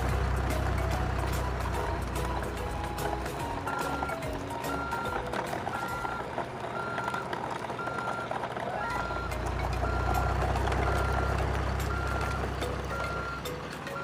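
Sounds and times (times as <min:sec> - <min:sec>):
reversing beeper: 0:00.8 - 0:14.0.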